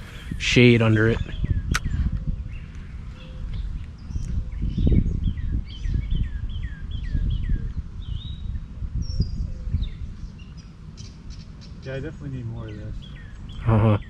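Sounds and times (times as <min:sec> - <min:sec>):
low rumble on the microphone: 0:00.0 - 0:14.0.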